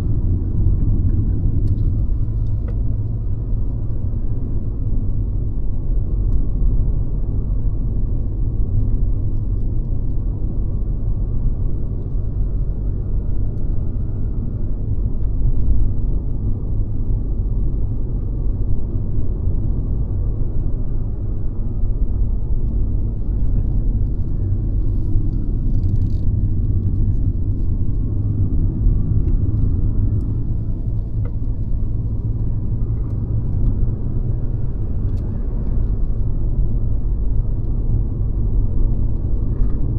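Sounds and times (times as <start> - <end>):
car engine rumble while cruising: 0.0 - 39.9
road noise: 0.0 - 39.9.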